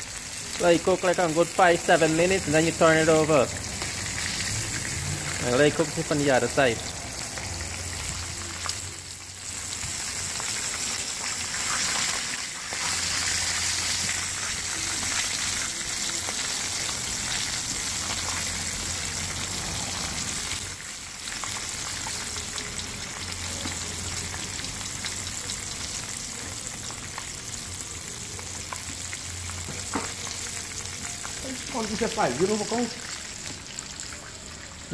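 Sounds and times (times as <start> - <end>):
fish sizzling in hot oil: 0.0 - 34.9.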